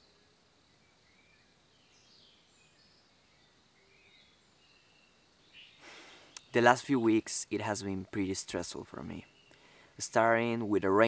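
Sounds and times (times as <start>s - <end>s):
bird chirps: 0.0s - 11.0s
faint forest ambience: 0.0s - 11.0s.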